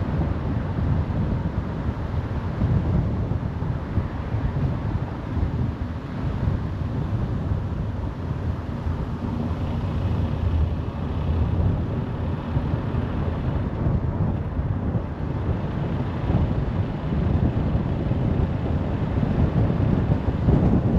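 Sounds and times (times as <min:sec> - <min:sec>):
road and tyre rumble: 0:00.0 - 0:20.9
wind noise: 0:00.0 - 0:20.9.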